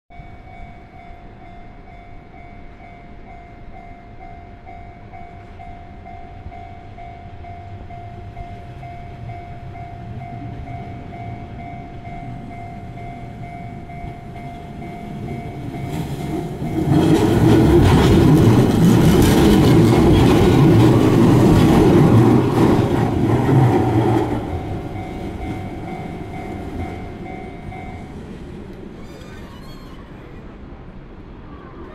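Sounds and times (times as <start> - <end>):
level-crossing warning bell ringing: 0.1 - 28.8
electric train passing: 0.1 - 31.9.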